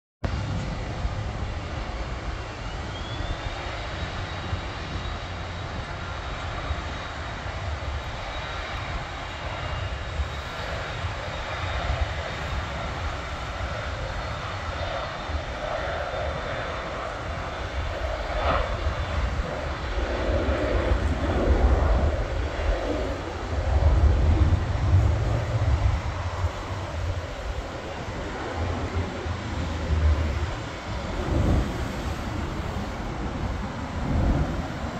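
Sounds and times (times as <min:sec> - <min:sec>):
deep rumble of jet rolling: 0:00.2 - 0:34.9
jet engine roar: 0:00.2 - 0:34.9
jet engine whine: 0:00.2 - 0:34.9.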